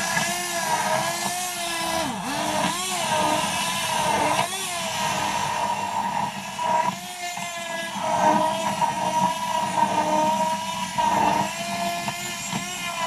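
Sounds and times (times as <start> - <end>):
stick blender motor whine: 0.0 - 13.0.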